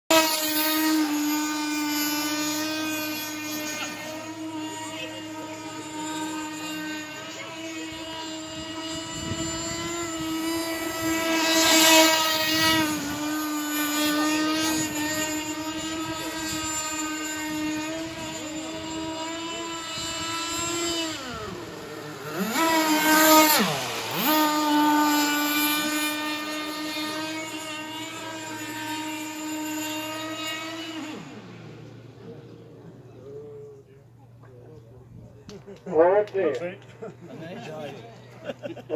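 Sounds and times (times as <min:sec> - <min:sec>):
model boat engine buzzing: 0:00.1 - 0:38.9.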